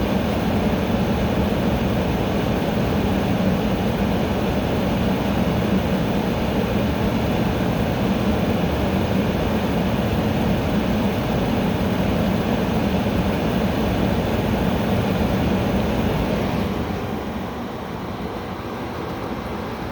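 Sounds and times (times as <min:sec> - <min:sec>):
air conditioner running: 0:00.0 - 0:19.9.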